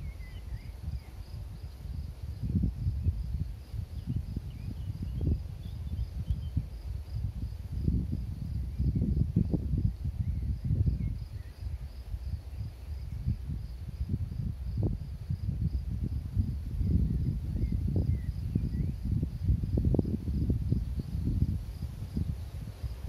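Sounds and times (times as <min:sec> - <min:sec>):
insect chirping: 0:00.0 - 0:23.0
wind buffeting microphone: 0:00.0 - 0:23.0.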